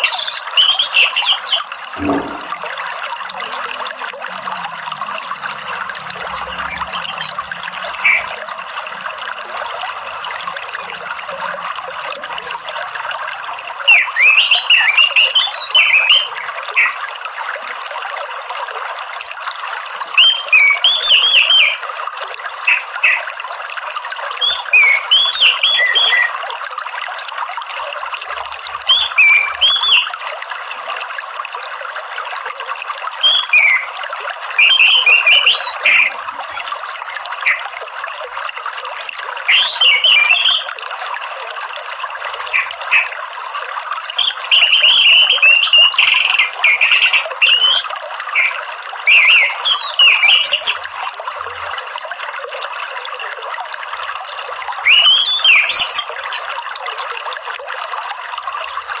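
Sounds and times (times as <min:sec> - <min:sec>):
running water trickling: 0:00.0 - 0:59.0.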